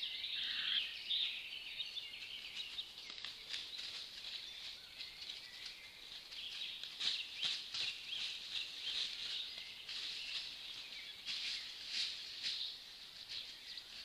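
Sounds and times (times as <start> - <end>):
songbirds chorus: 0.0 - 14.0.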